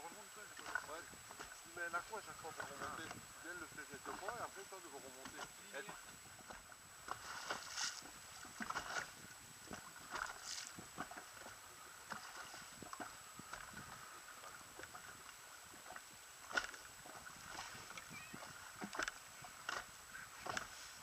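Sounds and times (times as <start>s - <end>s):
small waves slapping hull: 0.1s - 21.0s.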